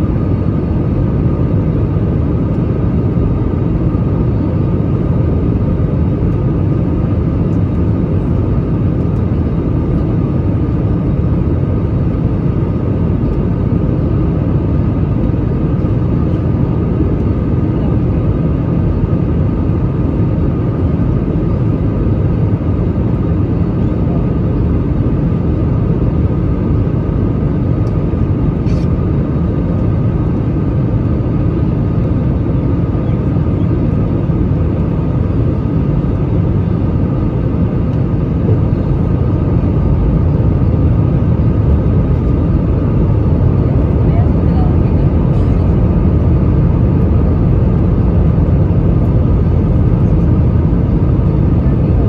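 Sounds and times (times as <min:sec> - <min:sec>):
aircraft cabin engine rumble: 0:00.0 - 0:52.0.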